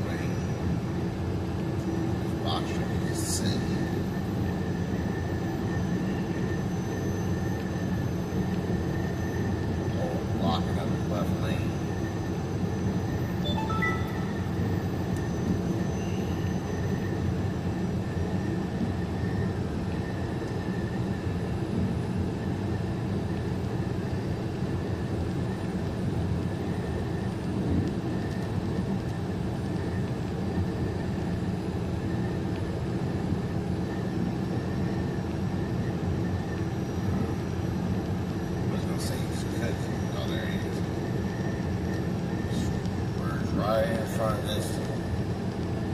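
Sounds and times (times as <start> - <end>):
faint high whine: 0.0 - 45.9.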